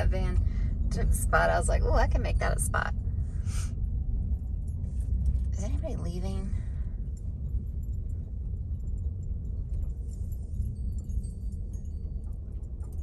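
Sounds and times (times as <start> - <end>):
road and engine rumble in van: 0.0 - 13.0.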